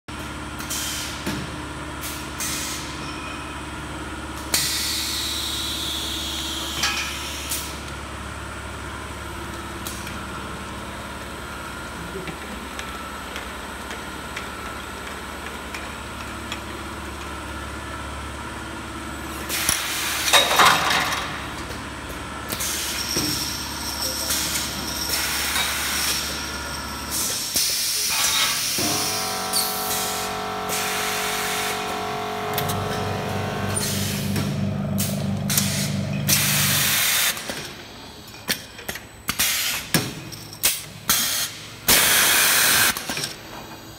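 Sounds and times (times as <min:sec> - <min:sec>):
bottling machine hum: 0:00.3 - 0:43.9.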